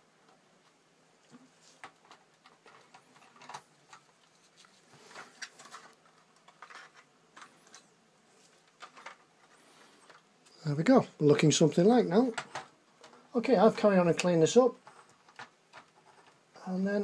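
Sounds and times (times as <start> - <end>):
hands handling plastic model: 0.2 - 10.6, 11.4 - 16.6.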